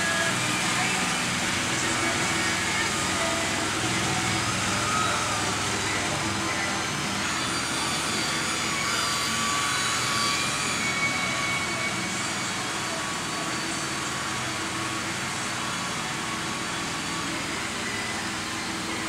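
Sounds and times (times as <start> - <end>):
electric polisher motor whine: 0.0 - 19.0.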